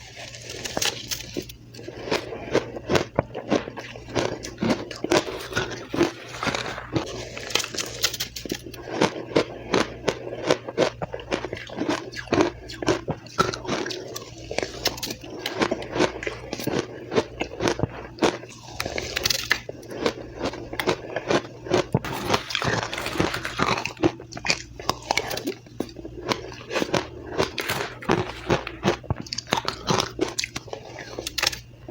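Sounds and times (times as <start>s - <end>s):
person chewing crushed ice: 0.0s - 31.9s.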